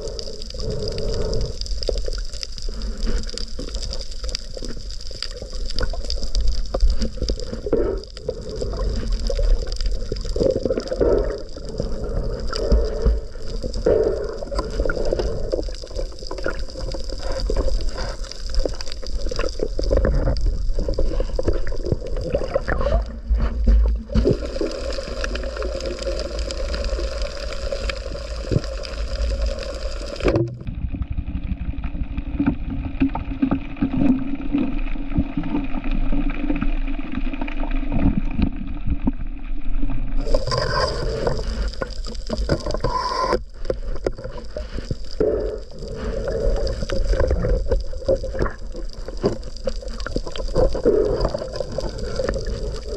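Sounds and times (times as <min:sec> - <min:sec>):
water swirling and gurgling: 0:00.0 - 0:52.9.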